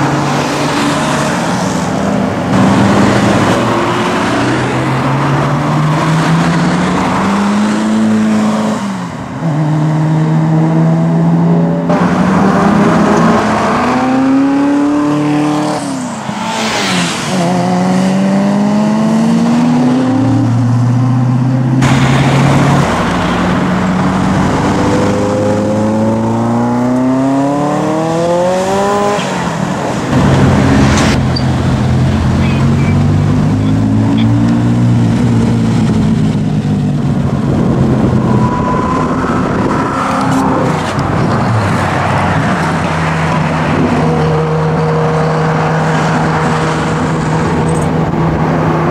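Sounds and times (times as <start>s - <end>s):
car engine accelerating hard: 0.0s - 48.9s.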